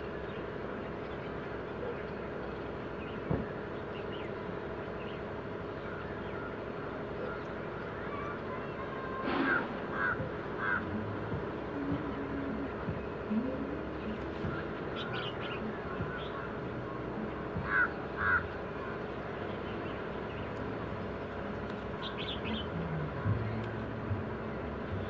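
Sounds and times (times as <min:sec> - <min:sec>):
bird calling: 0:00.0 - 0:25.0
outdoor background hum: 0:00.0 - 0:25.0
small birds chirping: 0:00.0 - 0:25.0.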